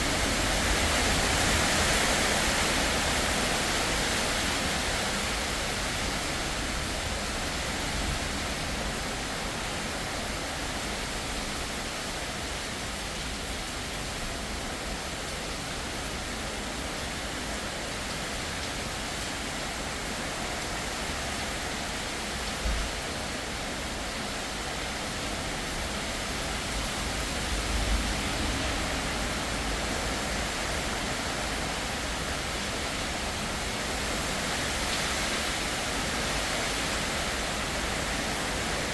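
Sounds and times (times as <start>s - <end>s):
heavy rain in strong wind: 0.0s - 38.9s.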